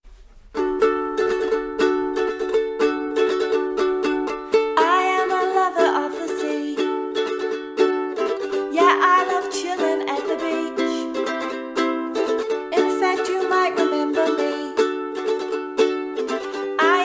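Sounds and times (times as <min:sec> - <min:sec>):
ukulele strumming chords: 0:00.1 - 0:17.0.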